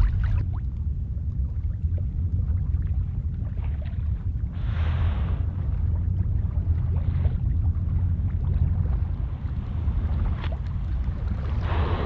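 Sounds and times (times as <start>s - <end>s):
wind rumbling on microphone: 0.0s - 12.0s
water washing past hull: 1.7s - 12.0s.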